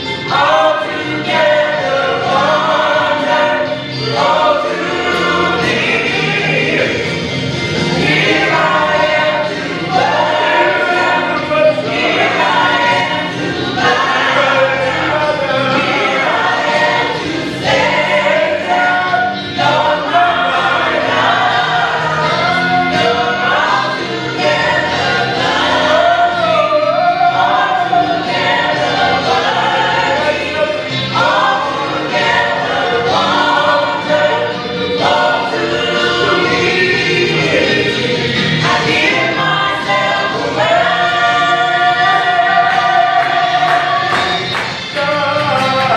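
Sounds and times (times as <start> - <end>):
gospel choir singing: 0.0 - 45.9
instrumental accompaniment: 0.0 - 45.9.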